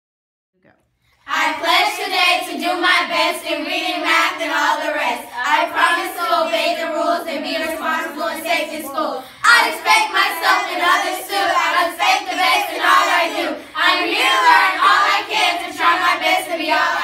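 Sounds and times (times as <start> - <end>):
children chanting in unison: 1.3 - 17.0.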